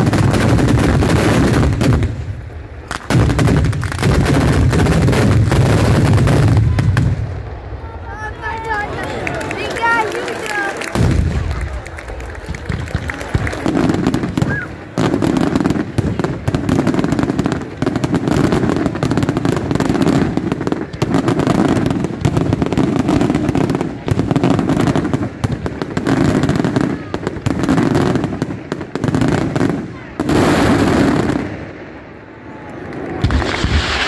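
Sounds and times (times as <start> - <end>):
firecracker barrage: 0.0 - 34.0.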